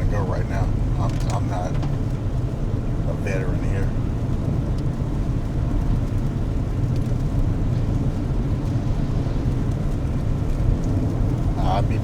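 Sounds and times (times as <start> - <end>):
car interior road noise: 0.0 - 12.0.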